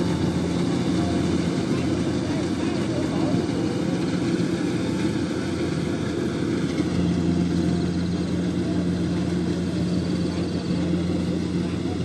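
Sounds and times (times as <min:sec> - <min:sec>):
combine harvester engine droning: 0:00.0 - 0:12.0.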